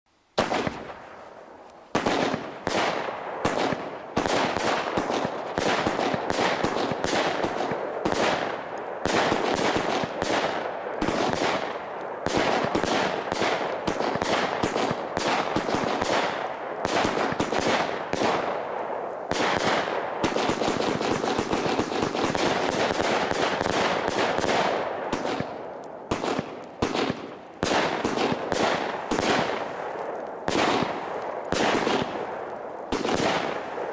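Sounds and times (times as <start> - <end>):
crackling firework volleys: 0.2 - 33.9
firework shots launching and bursting: 0.4 - 1.3, 1.9 - 33.9.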